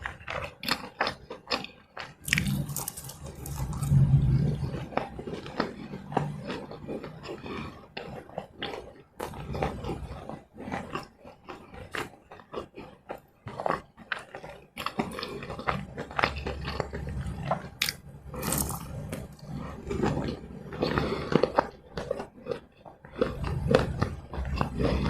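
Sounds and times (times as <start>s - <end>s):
chewing with wet mouth clicks: 0.0s - 4.0s, 4.9s - 25.0s.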